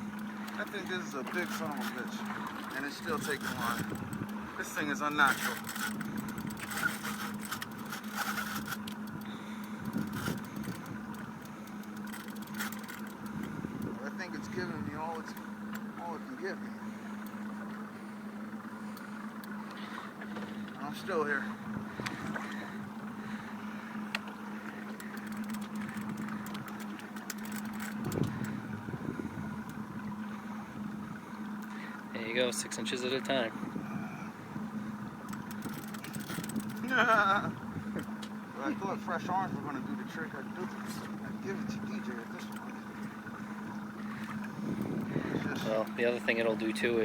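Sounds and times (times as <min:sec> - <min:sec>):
boat engine humming: 0:00.0 - 0:47.0
water noise: 0:00.0 - 0:47.0
wind: 0:00.0 - 0:47.0.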